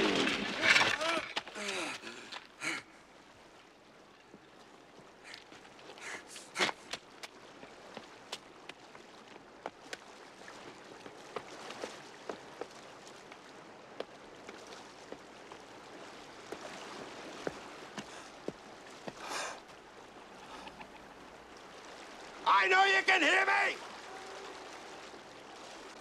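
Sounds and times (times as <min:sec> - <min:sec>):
creek water over rocks: 0:00.0 - 0:26.0.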